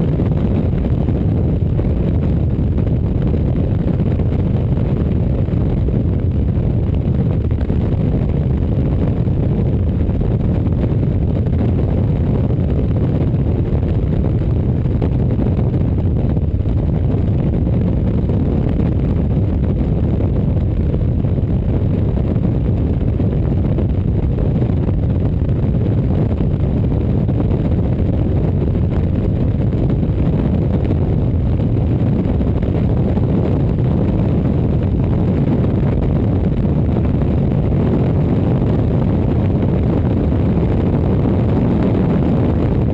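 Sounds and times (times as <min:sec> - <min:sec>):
motorcycle cruising rumble: 0:00.0 - 0:42.9.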